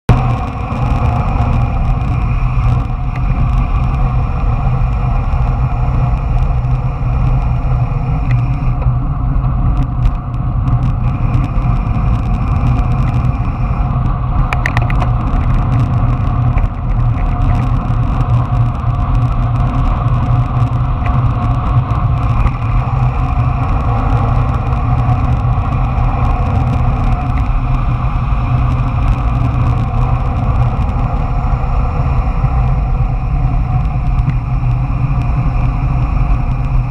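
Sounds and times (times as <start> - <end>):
wheels rolling on asphalt: 0.1 - 36.9
wind on microphone: 0.1 - 36.9.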